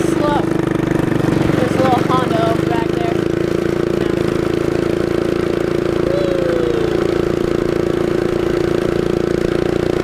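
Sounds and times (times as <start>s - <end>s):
small engine humming: 0.0s - 10.0s.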